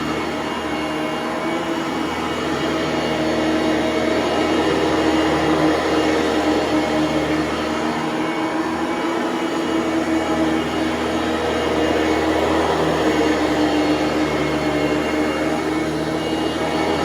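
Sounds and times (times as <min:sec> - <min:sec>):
vacuum cleaner running on carpet: 0:00.0 - 0:17.0.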